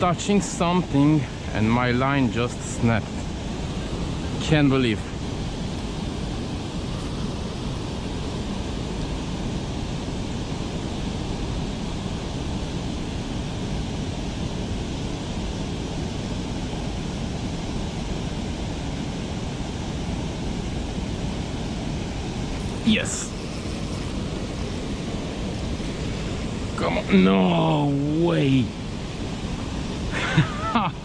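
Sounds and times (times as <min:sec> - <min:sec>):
steady rushing outdoor noise: 0:00.0 - 0:31.0.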